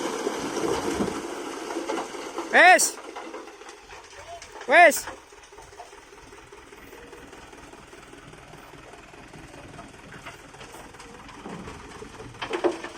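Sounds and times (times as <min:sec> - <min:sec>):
diesel engine idling: 0:01.3 - 0:12.9.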